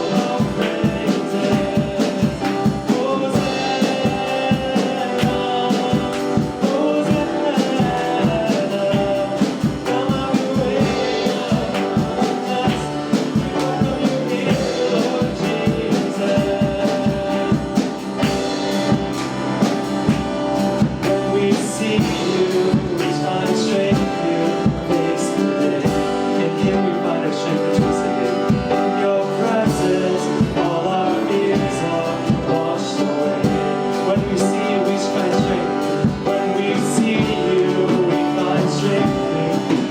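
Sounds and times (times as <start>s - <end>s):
person singing: 0.0s - 39.9s
worship band with drums and guitar: 0.0s - 39.9s.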